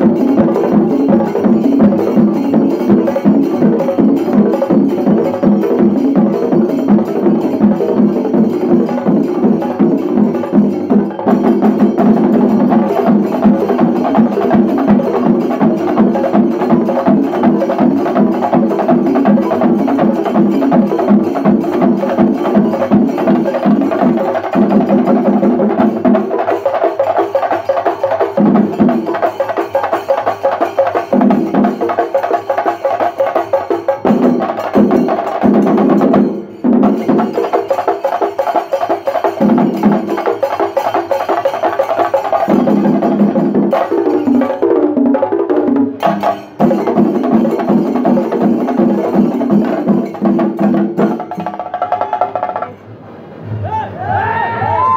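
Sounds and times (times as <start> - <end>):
drums beaten with sticks: 0.0 - 52.8.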